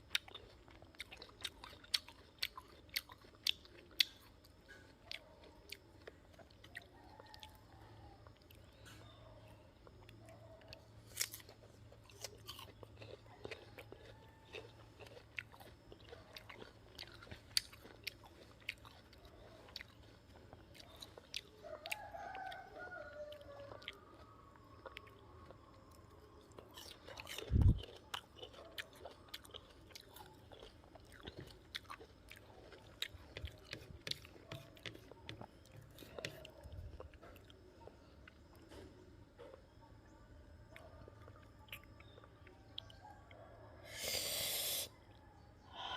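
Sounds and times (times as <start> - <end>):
fruit crunching being chewed: 0.0 - 39.8, 40.6 - 45.2.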